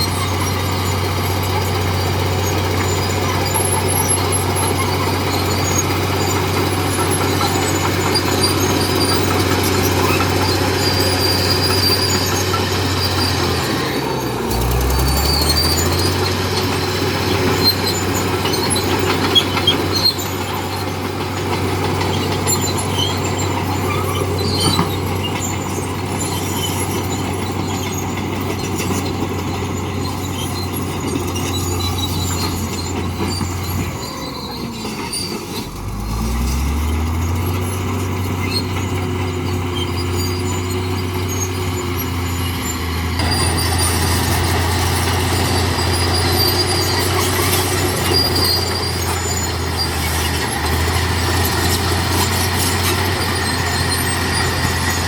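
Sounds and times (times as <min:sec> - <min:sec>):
bulldozer diesel engine: 0:00.0 - 0:55.0
steel tracks squealing and clanking: 0:00.0 - 0:55.0.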